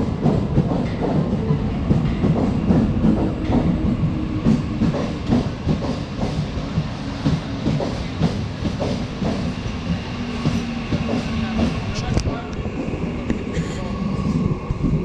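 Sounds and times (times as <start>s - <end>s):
train rumbling: 0.0s - 15.0s
train wheels clattering: 0.1s - 12.1s.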